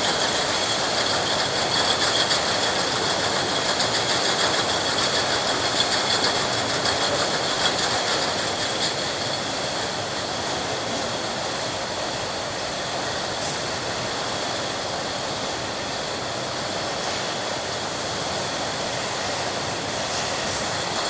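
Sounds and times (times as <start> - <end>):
bottling machinery running: 0.0 - 21.0.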